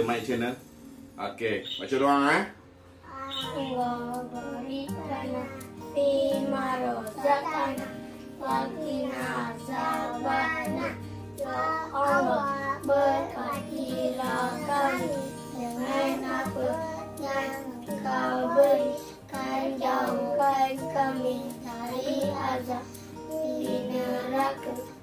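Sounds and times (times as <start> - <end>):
background music: 0.0 - 25.0
children chanting a prayer: 3.1 - 25.0.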